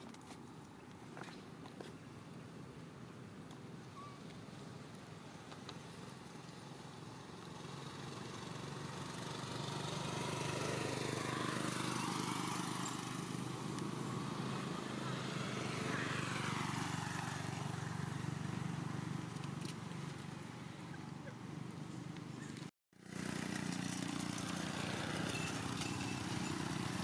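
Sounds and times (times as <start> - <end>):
vehicle engine humming: 4.6 - 27.0.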